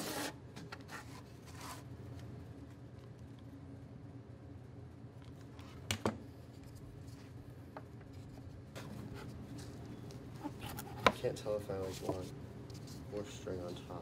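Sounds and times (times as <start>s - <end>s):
low steady hum: 0.1s - 14.0s.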